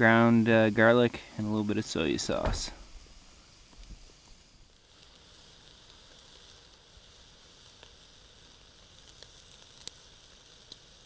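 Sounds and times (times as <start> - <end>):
steaks sizzling on a grill: 0.0 - 11.0.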